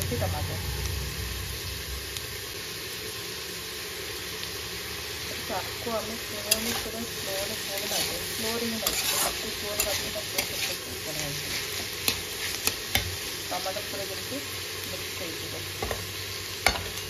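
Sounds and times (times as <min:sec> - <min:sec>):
beans sizzling in a pan: 0:00.0 - 0:17.0.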